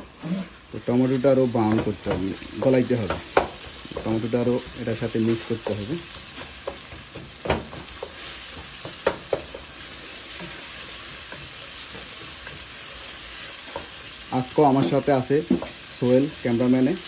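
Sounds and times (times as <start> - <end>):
onions sizzling in oil: 0.0 - 17.0
wooden spoon stirring: 0.4 - 16.8.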